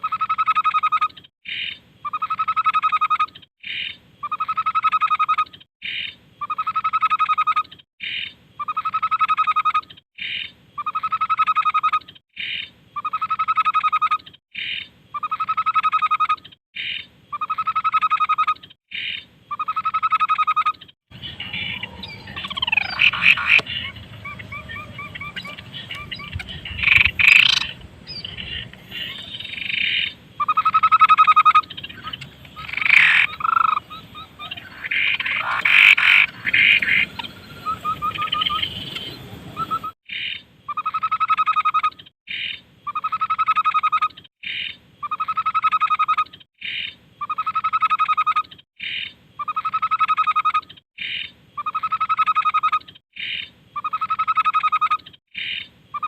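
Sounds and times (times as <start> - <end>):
recorded bird calls: 0.0 - 56.0.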